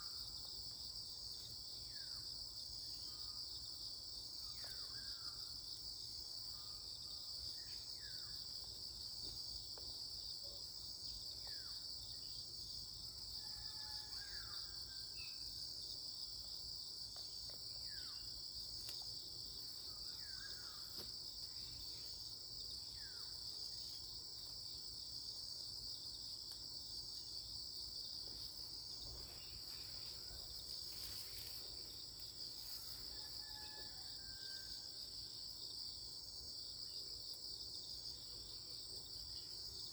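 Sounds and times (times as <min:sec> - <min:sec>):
insect chorus chirring: 0:00.0 - 0:39.9.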